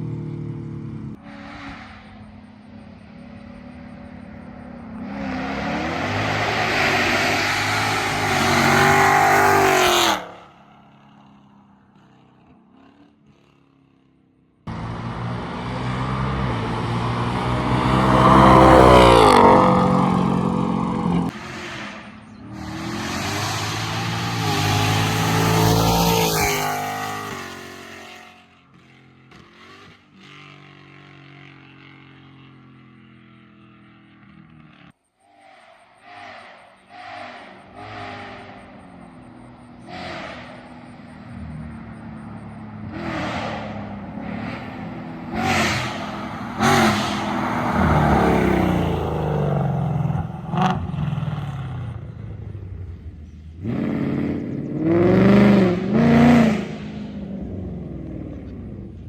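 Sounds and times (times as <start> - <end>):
car accelerating past: 0.0 - 11.5, 14.7 - 31.4, 33.7 - 59.0.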